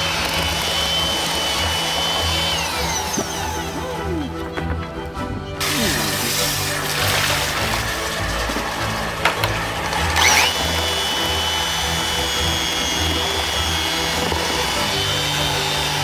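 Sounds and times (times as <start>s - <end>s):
power tool motor whining: 0.0s - 4.6s, 5.6s - 16.0s
background music: 0.0s - 16.0s.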